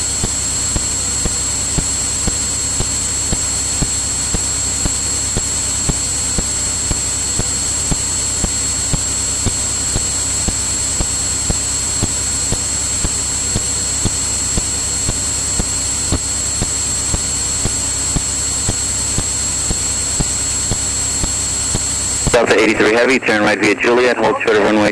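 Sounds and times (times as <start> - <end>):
propeller plane cockpit drone: 0.0 - 24.9
thin high whine: 0.0 - 24.9.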